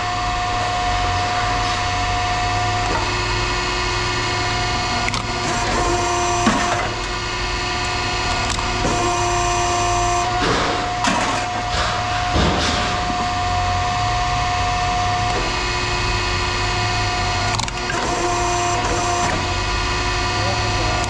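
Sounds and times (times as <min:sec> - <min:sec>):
power tool humming: 0:00.0 - 0:21.0.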